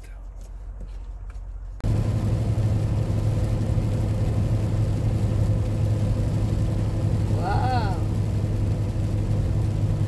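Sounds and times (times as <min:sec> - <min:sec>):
truck engine and road drone: 0:00.0 - 0:10.0
low hum: 0:00.1 - 0:10.0.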